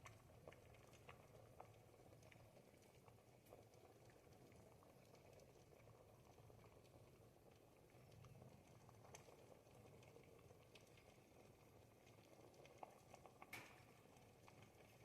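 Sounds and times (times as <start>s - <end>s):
soup simmering and bubbling: 0.0s - 15.0s.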